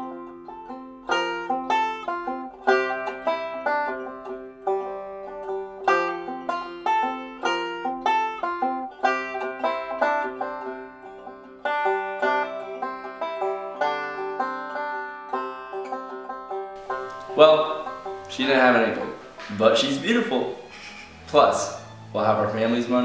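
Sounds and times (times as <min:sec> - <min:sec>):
fast-picked bluegrass banjo tune: 0:00.0 - 0:23.0.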